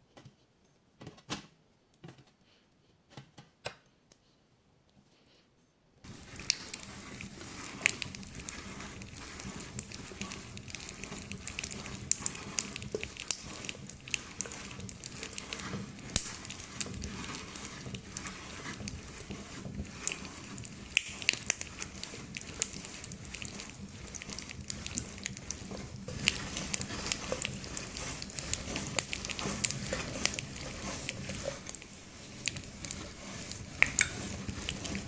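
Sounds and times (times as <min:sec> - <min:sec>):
meat grinder crackling grind: 0:06.0 - 0:35.0.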